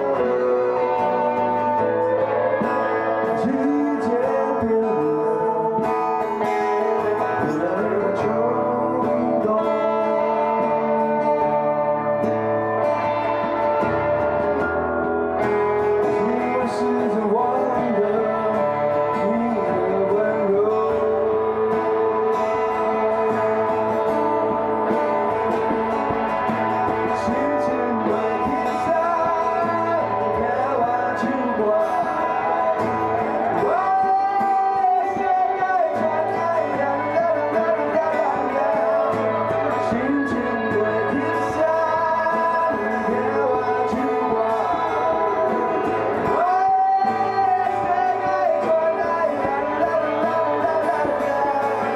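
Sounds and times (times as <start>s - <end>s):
man singing into microphone: 0.0s - 14.8s, 15.4s - 51.9s
guitars: 0.0s - 51.9s.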